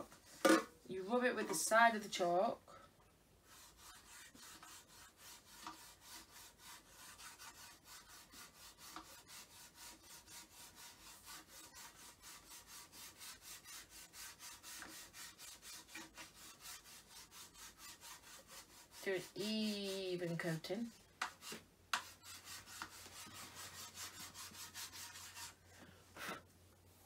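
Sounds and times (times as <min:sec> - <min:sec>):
chalk scratching back and forth: 0:03.4 - 0:26.4.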